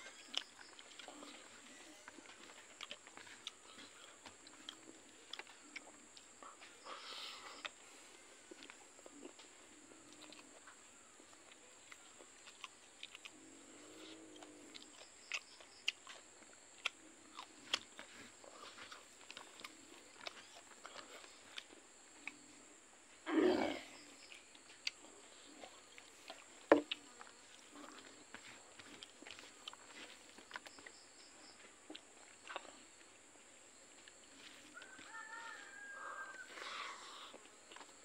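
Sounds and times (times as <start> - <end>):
person chewing with mouth clicks: 0.0 - 7.9, 8.5 - 22.6, 24.0 - 33.1, 36.3 - 38.0.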